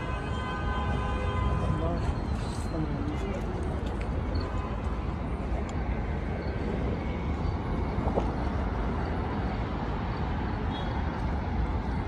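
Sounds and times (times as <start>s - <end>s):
passing cars rumbling: 0.0s - 12.0s.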